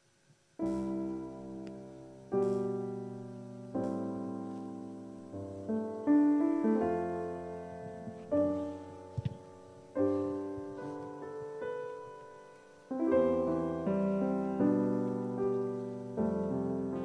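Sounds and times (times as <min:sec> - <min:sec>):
soft piano chords: 0:00.5 - 0:17.0.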